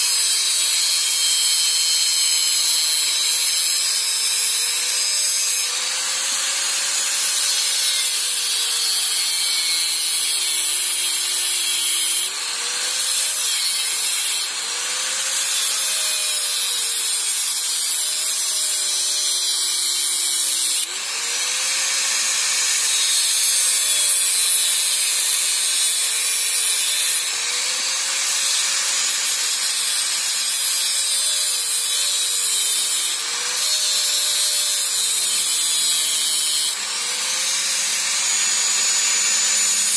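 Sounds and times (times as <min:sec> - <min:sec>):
angle grinder cutting metal pipe: 0:00.0 - 0:39.9.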